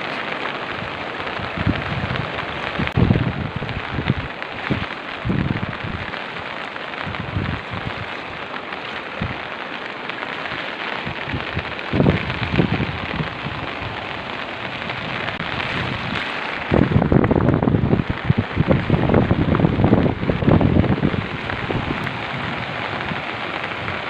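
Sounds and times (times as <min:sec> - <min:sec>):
rushing water: 0:00.0 - 0:24.0.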